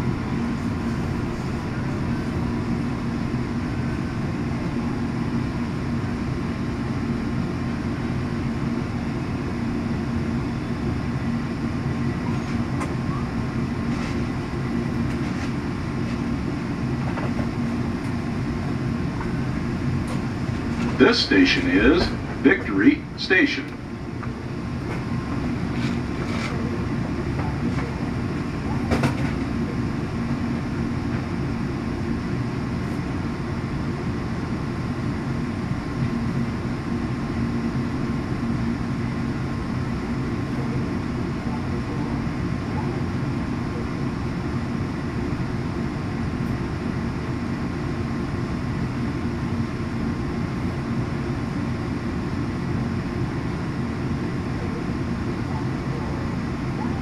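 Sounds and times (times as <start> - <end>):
train rumble inside coach: 0.0 - 57.0.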